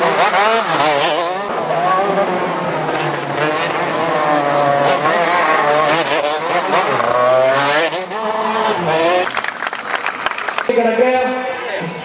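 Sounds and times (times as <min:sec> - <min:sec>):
go-kart engine revving: 0:00.0 - 0:10.7.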